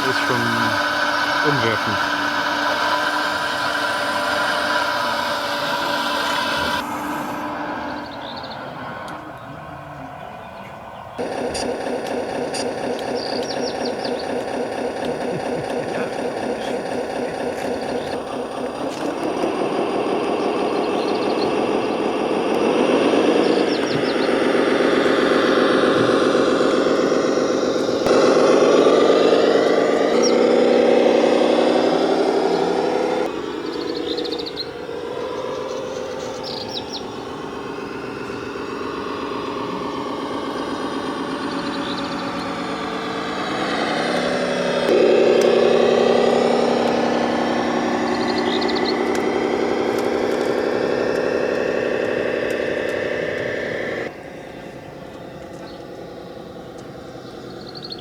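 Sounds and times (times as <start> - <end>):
birds chirping: 0.0 - 58.0
model engine humming: 0.0 - 58.0.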